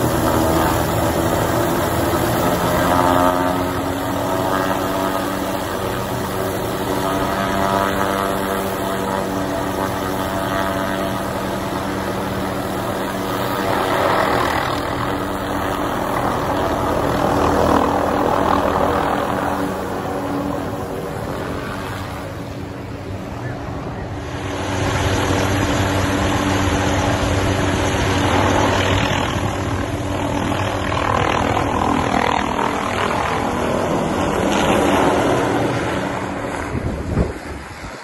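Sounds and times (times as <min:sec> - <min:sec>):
helicopter engine hum: 0:00.0 - 0:38.0
helicopter rotor rushing: 0:00.0 - 0:38.0.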